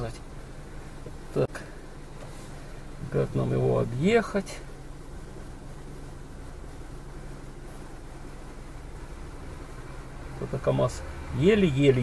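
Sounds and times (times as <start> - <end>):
air-conditioning fan blowing: 0.0 - 12.0
car engine running: 0.0 - 12.0.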